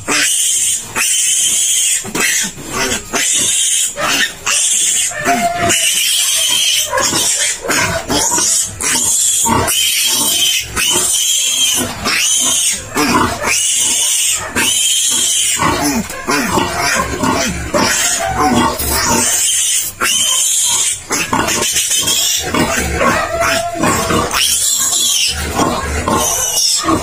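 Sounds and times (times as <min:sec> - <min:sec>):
piglet squealing: 0:00.0 - 0:27.0.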